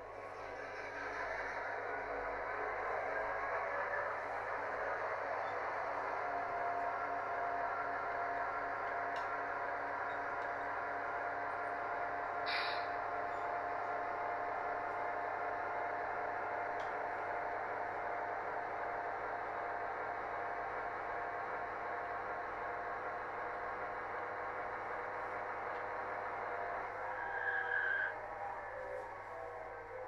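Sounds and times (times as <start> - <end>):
model train rolling on track: 0.0 - 30.0
thin steady whine: 0.0 - 30.0.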